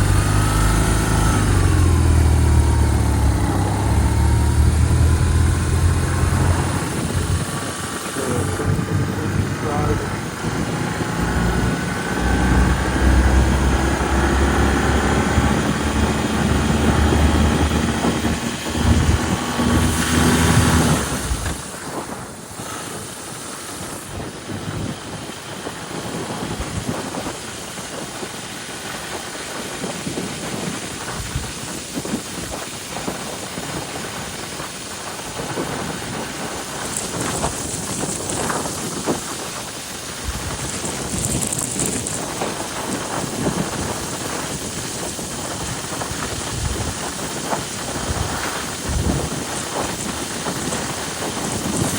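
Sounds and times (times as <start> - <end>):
motorcycle engine running: 0.0 - 51.9
wind buffeting microphone: 0.0 - 51.9.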